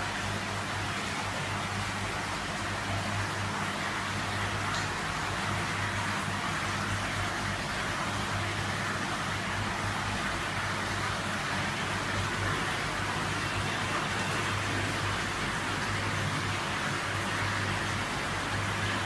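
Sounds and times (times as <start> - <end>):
aquarium water rushing: 0.0 - 19.0
low pump hum: 0.0 - 19.0.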